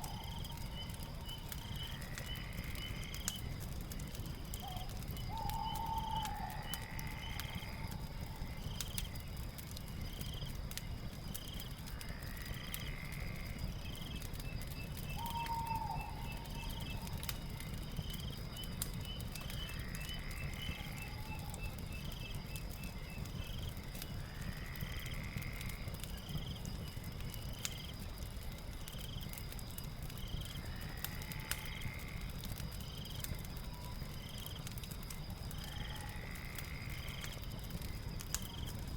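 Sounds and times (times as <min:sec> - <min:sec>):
fireplace crackling and popping: 0:00.0 - 0:38.9
insect trill: 0:00.0 - 0:38.9.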